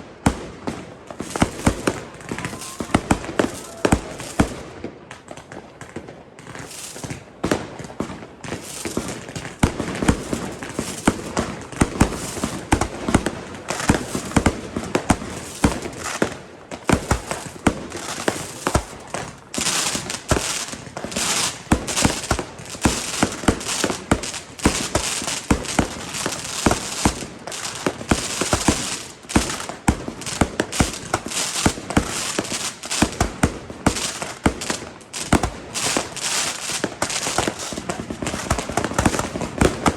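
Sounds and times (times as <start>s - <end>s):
fireworks bangs and pops: 0.0s - 39.9s
firework crackling: 0.1s - 39.9s.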